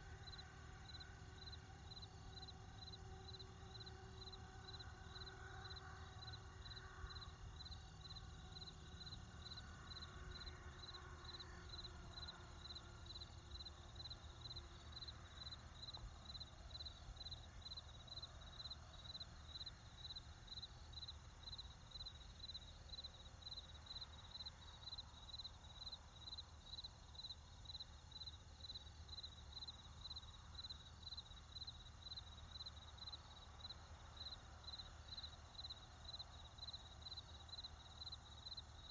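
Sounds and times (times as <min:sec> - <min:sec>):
crickets chirping: 0:00.1 - 0:38.9.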